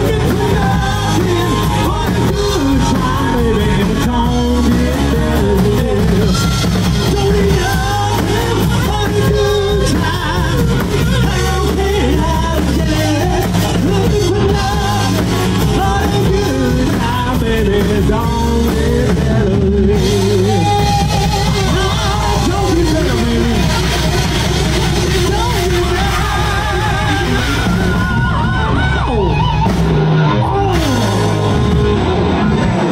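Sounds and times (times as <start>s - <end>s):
bass guitar: 0.0s - 32.9s
drum kit: 0.0s - 32.9s
electric guitar: 0.0s - 32.9s
live rock band playing: 0.0s - 32.9s
person singing: 0.0s - 32.9s.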